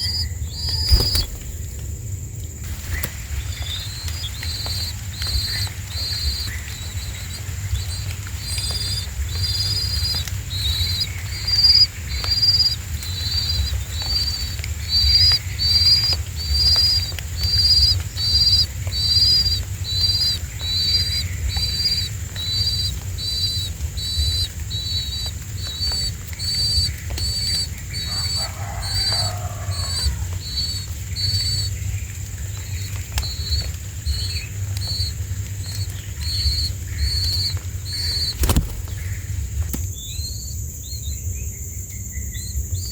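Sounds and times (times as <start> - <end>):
nestlings chirping: 0.1 - 40.5.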